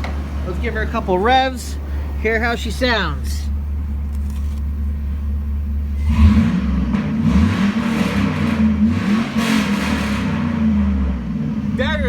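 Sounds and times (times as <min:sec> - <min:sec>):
truck engine idling and revving: 0:00.0 - 0:12.0.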